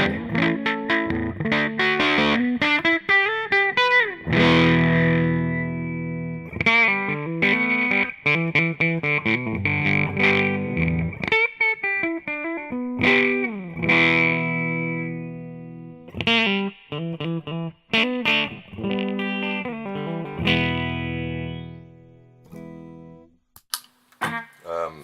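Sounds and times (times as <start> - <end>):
fuzzed electric guitar: 0.0 - 22.7.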